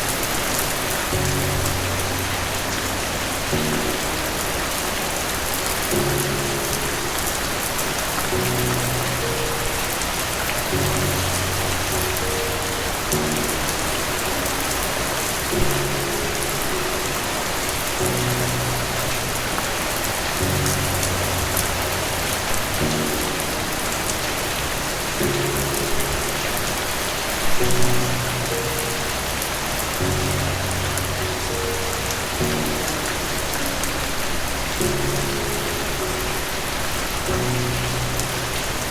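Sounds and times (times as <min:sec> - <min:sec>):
soft low musical chords: 0:00.0 - 0:38.9
steady rain falling: 0:00.0 - 0:38.9.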